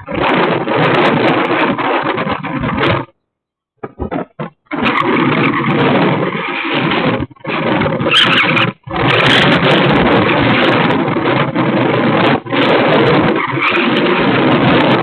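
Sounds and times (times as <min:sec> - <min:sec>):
wind buffeting microphone: 0:00.0 - 0:03.1, 0:03.8 - 0:15.0.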